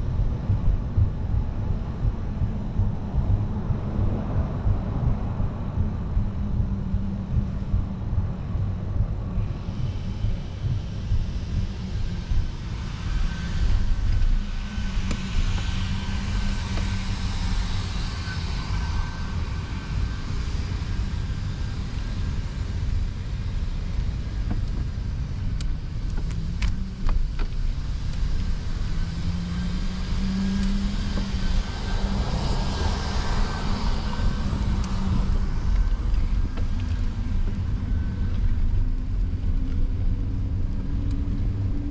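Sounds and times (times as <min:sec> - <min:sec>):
low traffic rumble: 0:00.0 - 0:41.9.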